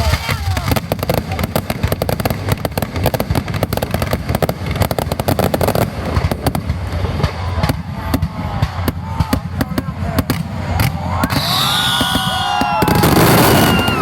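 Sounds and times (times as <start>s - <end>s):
fireworks cracking: 0.0s - 14.0s.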